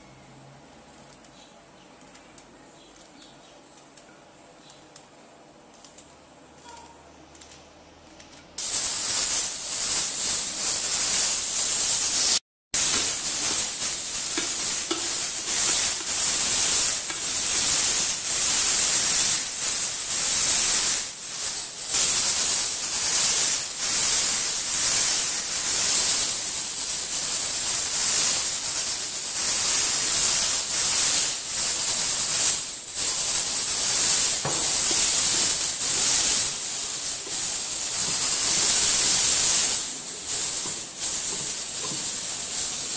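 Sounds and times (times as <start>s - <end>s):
loud steady hiss: 8.3s - 42.9s.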